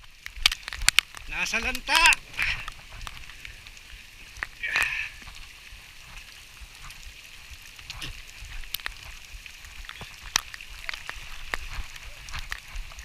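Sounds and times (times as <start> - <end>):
rain hiss: 0.0 - 13.0
raindrops ticking: 0.0 - 13.0.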